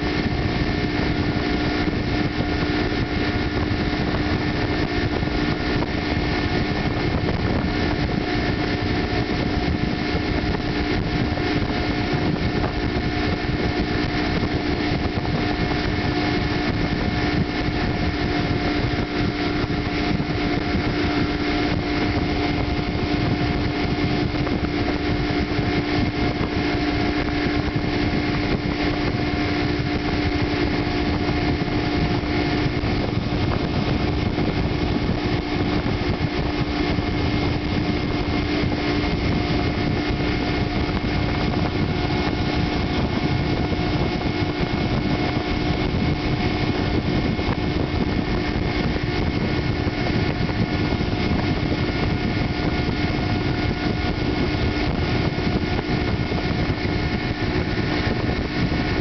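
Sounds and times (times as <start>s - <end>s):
outboard motor droning: 0.0s - 59.0s
rushing wind and water: 0.0s - 59.0s.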